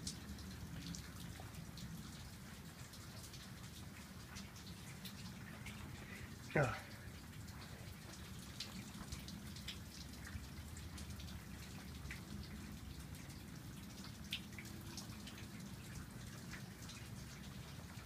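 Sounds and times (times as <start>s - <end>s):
raindrops ticking: 0.0s - 18.0s
steady rain falling: 0.0s - 18.0s.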